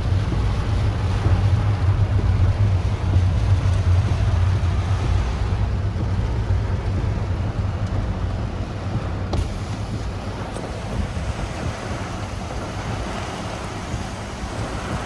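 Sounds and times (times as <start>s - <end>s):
heavy rain: 0.0s - 15.0s
wind rumbling on microphone: 0.0s - 15.0s.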